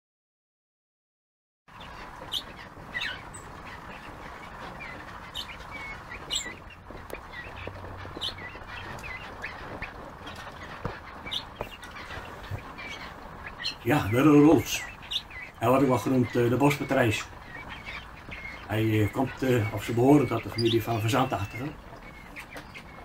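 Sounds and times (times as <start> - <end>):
birds chirping: 1.7 - 23.0
steady background hiss: 1.7 - 23.0.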